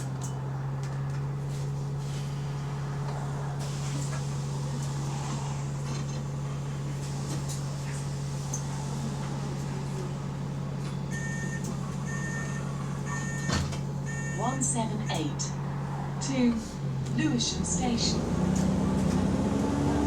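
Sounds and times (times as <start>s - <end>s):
bus engine droning: 0.0s - 20.0s.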